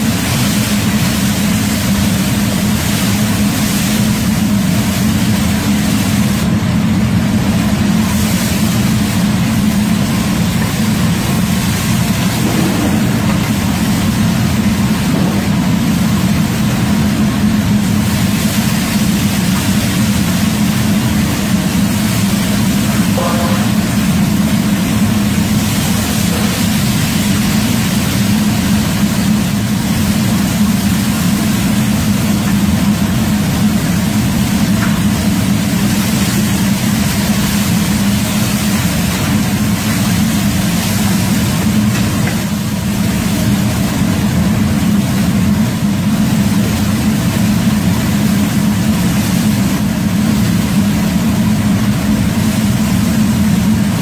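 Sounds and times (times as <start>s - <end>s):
wok burner and fan roaring: 0.0s - 54.0s.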